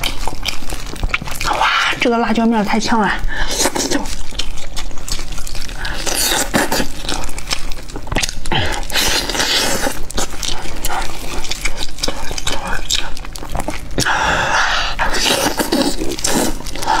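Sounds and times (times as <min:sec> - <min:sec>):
chewing with moist smacking: 0:00.0 - 0:17.0.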